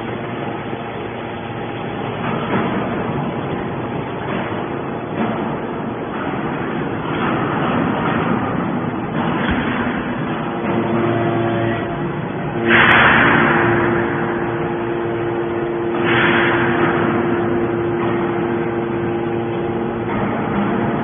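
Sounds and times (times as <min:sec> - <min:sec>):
hydraulic baler pump hum: 0:00.0 - 0:21.0.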